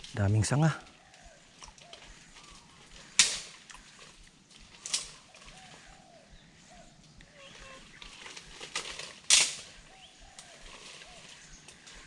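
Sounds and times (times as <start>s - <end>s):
faint bird calls: 0.0s - 8.8s, 9.6s - 12.0s.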